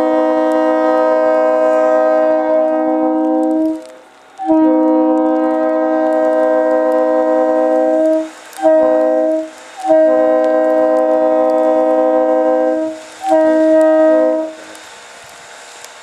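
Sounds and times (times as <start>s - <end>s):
locomotive air horn blasts: 0.0s - 14.8s.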